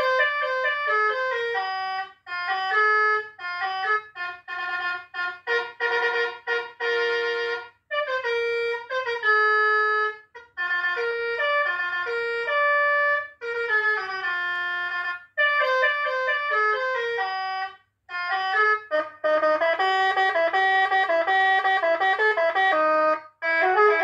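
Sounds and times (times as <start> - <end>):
electronic bus horn playing tunes: 0.0 - 24.0.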